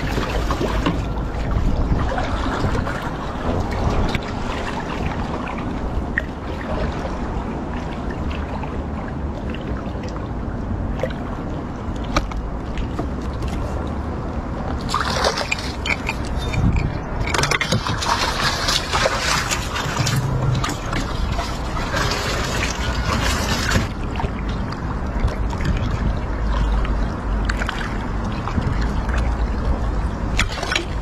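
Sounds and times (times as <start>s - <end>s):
low rumble: 0.0s - 31.0s
water splashing and sloshing: 0.0s - 31.0s.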